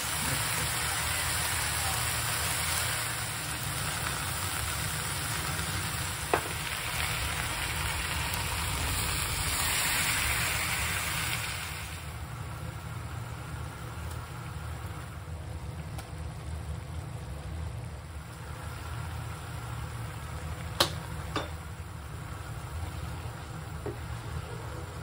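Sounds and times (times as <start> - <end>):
sauce bubbling in a frying pan: 0.0 - 25.0
steady low hum: 0.0 - 25.0.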